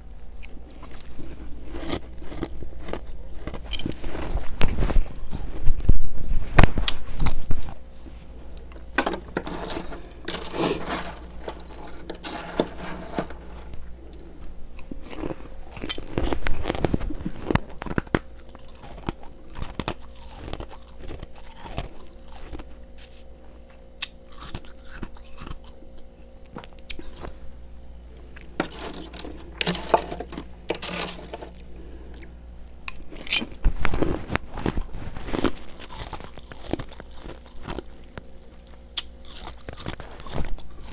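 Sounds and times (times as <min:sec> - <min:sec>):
faint steady hum: 0:00.0 - 0:40.9
chewing crunchy frost: 0:00.4 - 0:27.5, 0:28.1 - 0:40.9.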